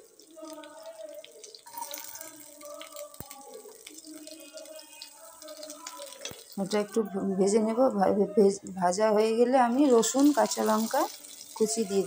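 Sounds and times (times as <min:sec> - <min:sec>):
food sizzling in hot oil: 0:00.0 - 0:07.1, 0:09.2 - 0:12.0.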